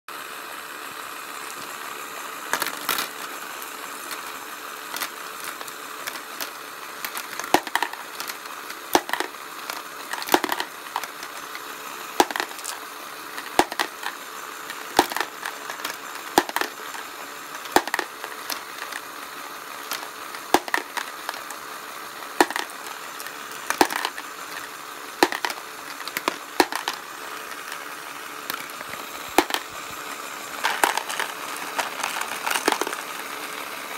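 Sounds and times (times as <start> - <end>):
conveyor motor whir: 0.1 - 33.9
marbles clicking into plastic tray: 2.5 - 11.6, 12.2 - 30.0, 30.6 - 33.2.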